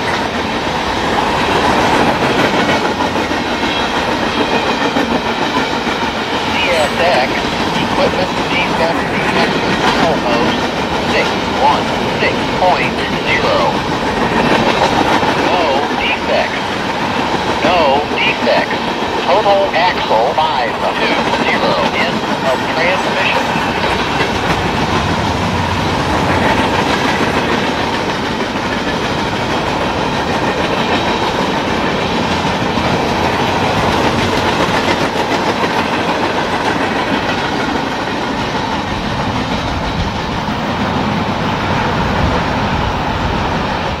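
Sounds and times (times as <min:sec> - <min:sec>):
freight train wheels rumbling on rails: 0:00.0 - 0:44.0.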